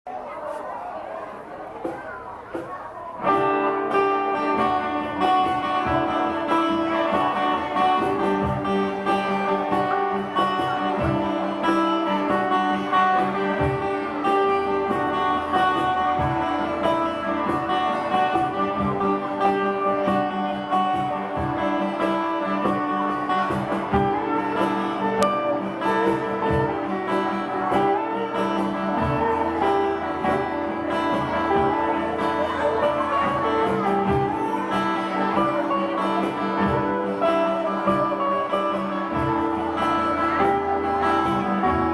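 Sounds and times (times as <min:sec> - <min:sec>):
live band with guitar: 0:00.1 - 0:41.9.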